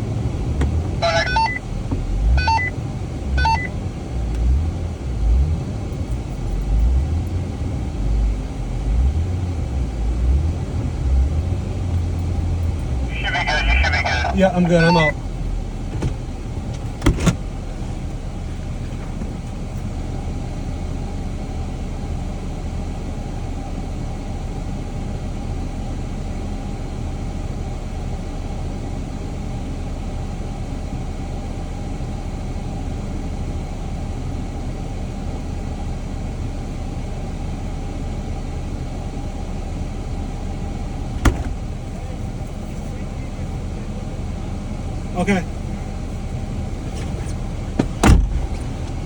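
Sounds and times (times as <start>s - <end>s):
engine droning while driving: 0.0s - 49.0s
road noise: 0.0s - 49.0s.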